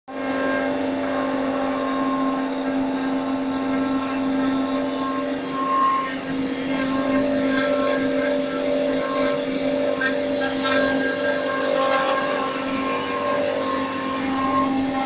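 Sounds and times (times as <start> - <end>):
cnc router humming: 0.1 - 15.0.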